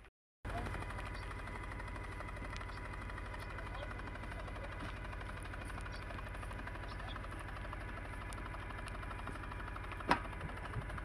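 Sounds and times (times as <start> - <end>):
machine engine humming: 0.4 - 11.0.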